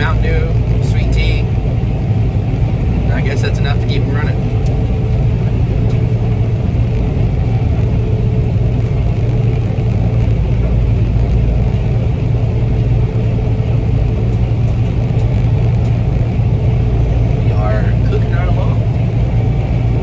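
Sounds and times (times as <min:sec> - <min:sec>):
combine harvester drone: 0:00.0 - 0:20.0.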